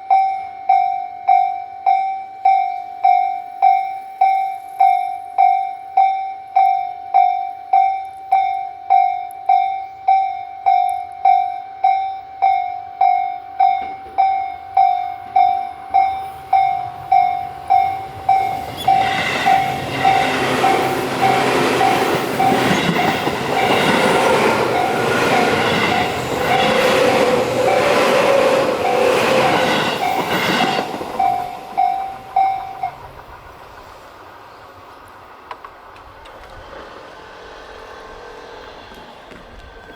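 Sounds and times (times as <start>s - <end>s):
railroad crossing bell dinging: 0.0s - 34.0s
train passing: 2.4s - 39.9s.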